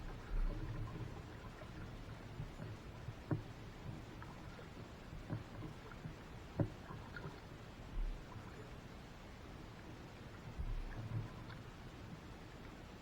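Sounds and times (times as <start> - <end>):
faint steady background noise: 0.0 - 13.0.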